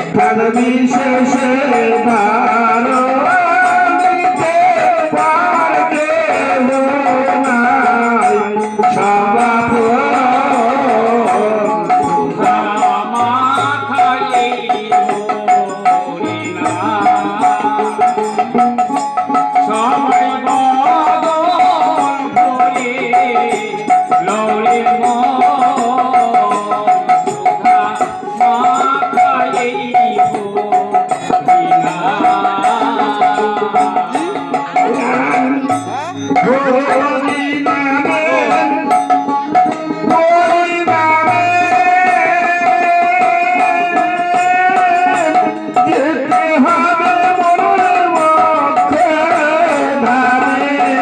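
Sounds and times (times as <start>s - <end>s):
hand percussion: 0.0s - 51.0s
harmonium melody: 0.0s - 51.0s.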